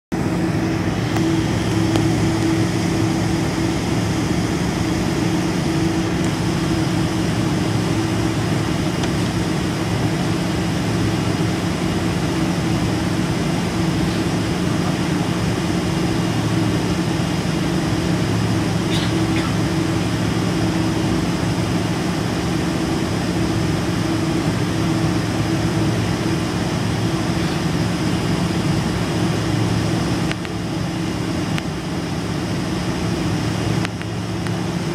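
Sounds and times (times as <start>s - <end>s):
jet engines humming in cabin: 0.1s - 34.9s.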